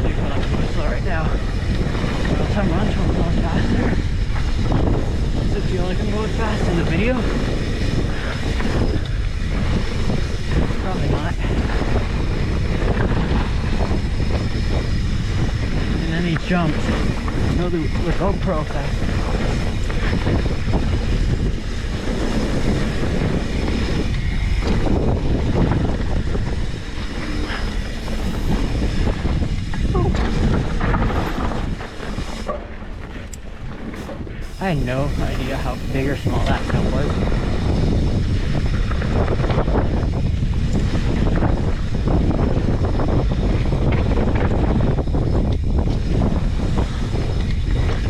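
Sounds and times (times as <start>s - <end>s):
bike tyres rumbling on dirt trail: 0.0s - 48.0s
wind buffeting microphone: 0.0s - 48.0s.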